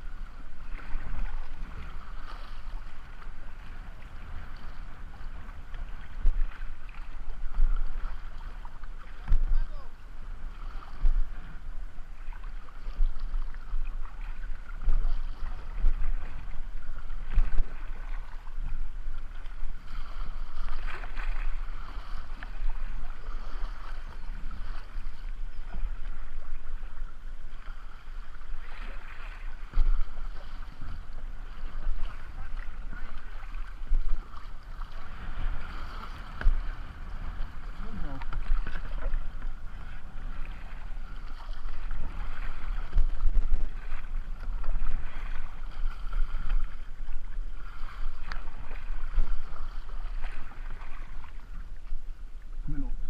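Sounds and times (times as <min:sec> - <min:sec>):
water splashing around paddle: 0:00.0 - 0:53.0
wind rumble on microphone: 0:00.0 - 0:53.0.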